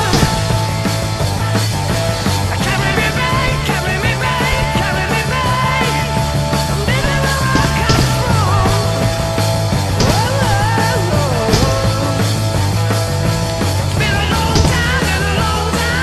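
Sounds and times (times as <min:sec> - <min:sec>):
loud rock music: 0:00.0 - 0:16.0
steady bass line: 0:00.0 - 0:16.0.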